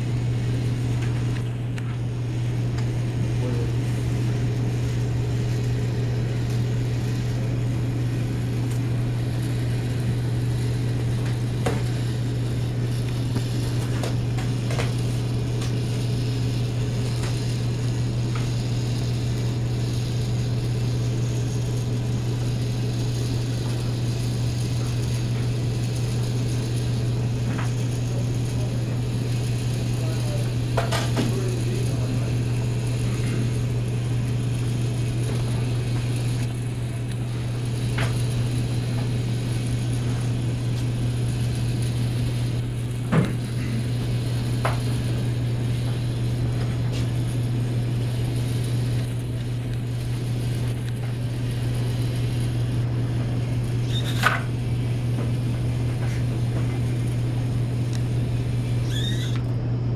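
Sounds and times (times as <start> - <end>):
servo motor hum: 0.0 - 59.5.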